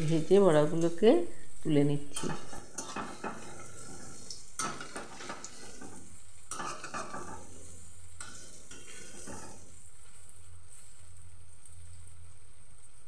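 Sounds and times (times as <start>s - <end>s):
fritters sizzling in hot oil: 0.0s - 13.0s
spatula stirring through oil: 0.0s - 13.0s.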